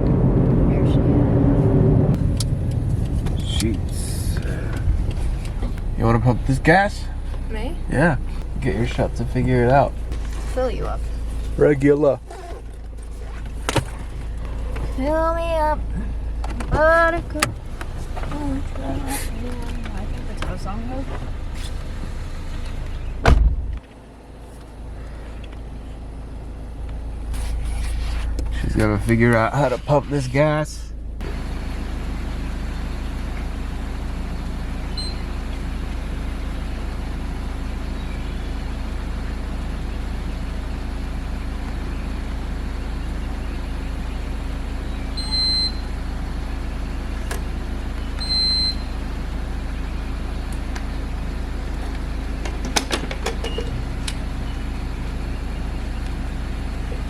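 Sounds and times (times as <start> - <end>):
car idling: 0.0 - 57.0.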